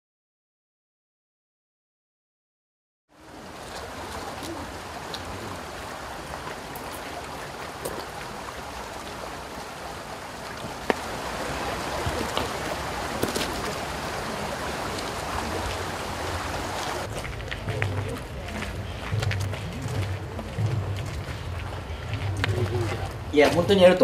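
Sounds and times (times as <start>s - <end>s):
rushing outdoor ambience: 3.1s - 24.0s.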